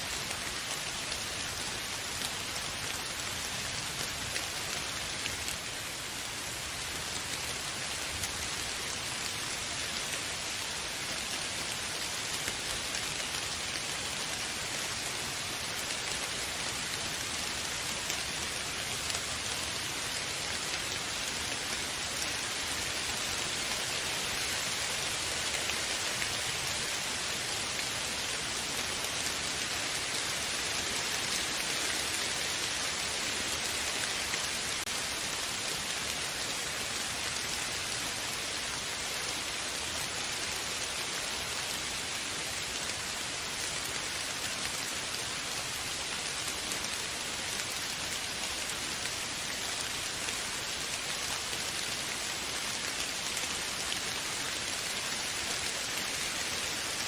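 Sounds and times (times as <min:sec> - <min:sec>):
rain hissing on surfaces: 0:00.0 - 0:57.0.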